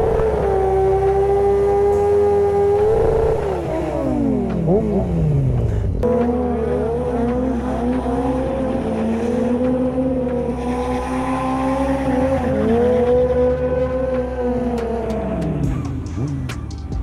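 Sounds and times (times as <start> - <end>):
motorcycle engine at high revs: 0.0 - 16.7.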